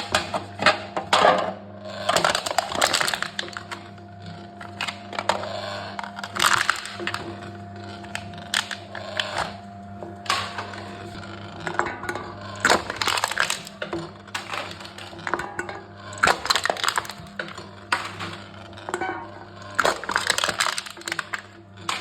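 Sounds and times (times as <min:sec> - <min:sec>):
machine crushing cans: 0:00.0 - 0:22.0
steady low hum: 0:01.7 - 0:22.0.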